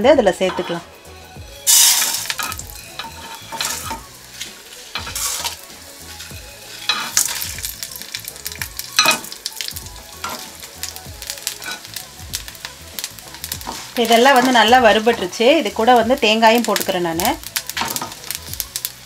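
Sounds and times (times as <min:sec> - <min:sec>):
oil sizzling: 0:00.0 - 0:19.0
spices rattling onto metal pan: 0:01.7 - 0:19.0.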